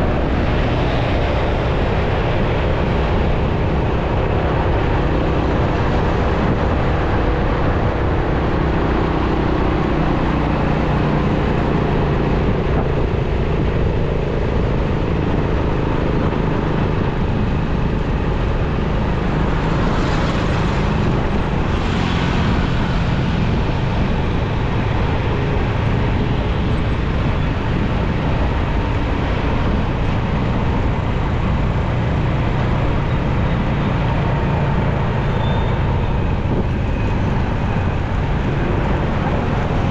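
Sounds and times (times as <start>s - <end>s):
surrounding traffic: 0.0s - 39.9s
wind and road noise: 0.0s - 39.9s.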